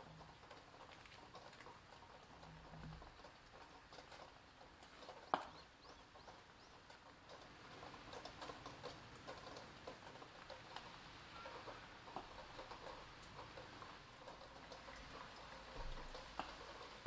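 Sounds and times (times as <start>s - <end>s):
raindrops ticking: 0.0s - 17.0s.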